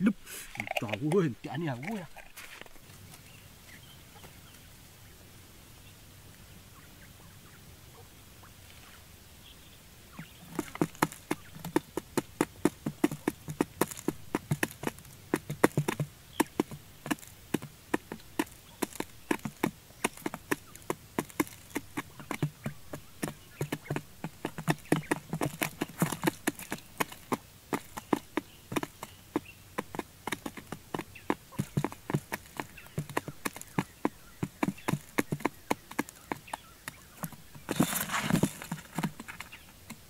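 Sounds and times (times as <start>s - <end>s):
quail pecking sharp taps: 0.0s - 4.7s, 10.1s - 40.0s.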